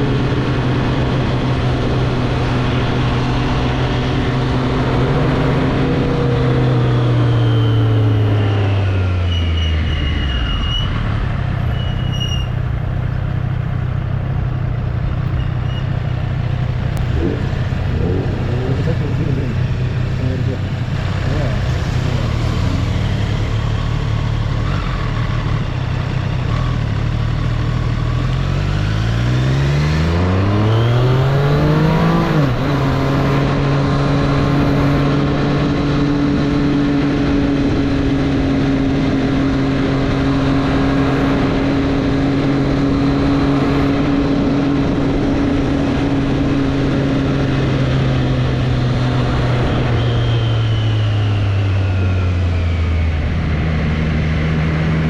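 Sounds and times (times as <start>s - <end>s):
motorcycle engine accelerating: 0.0s - 11.6s, 12.2s - 55.0s.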